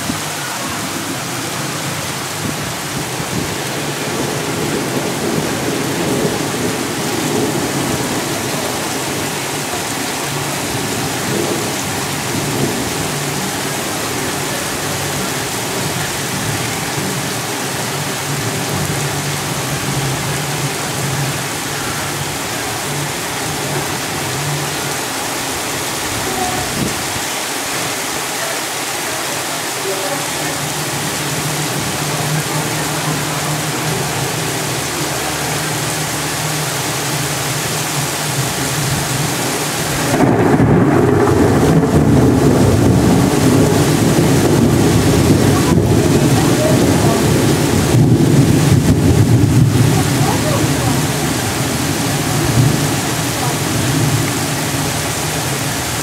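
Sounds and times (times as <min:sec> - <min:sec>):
thunder rumbling: 0:00.0 - 0:28.1, 0:28.8 - 0:56.0
heavy rain pouring: 0:00.0 - 0:56.0.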